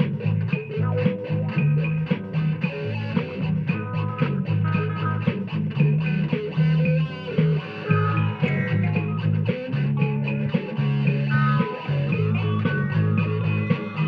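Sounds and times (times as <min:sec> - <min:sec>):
bass line: 0:00.0 - 0:14.0
rock band playing: 0:00.0 - 0:14.0.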